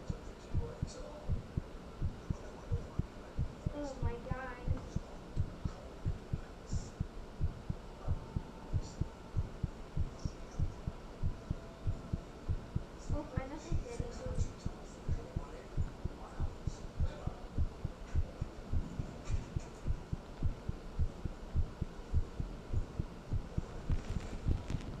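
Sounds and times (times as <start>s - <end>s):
heartbeat thumps: 0.0s - 25.0s.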